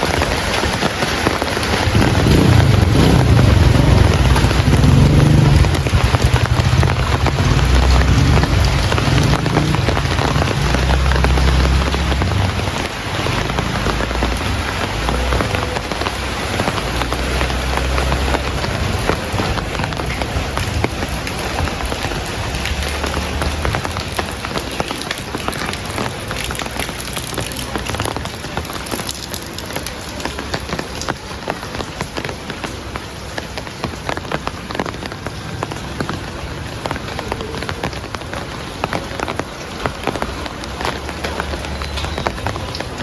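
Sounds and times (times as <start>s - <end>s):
heavy rain on a surface: 0.0s - 43.0s.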